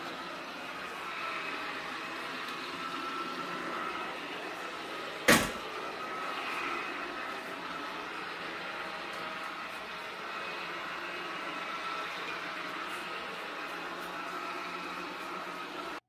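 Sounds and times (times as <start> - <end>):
mop cleaner motor hum: 0.0 - 16.0.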